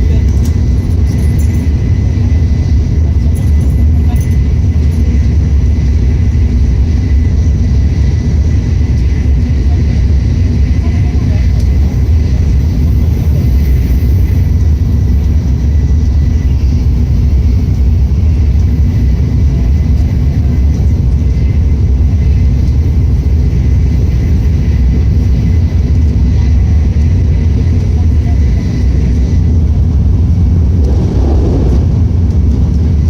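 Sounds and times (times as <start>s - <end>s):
train cabin low rumble: 0.0s - 33.0s.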